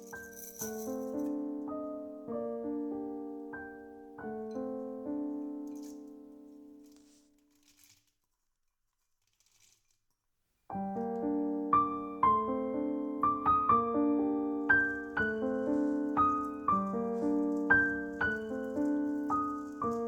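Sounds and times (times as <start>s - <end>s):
piano music: 0.0s - 7.0s, 10.7s - 20.0s.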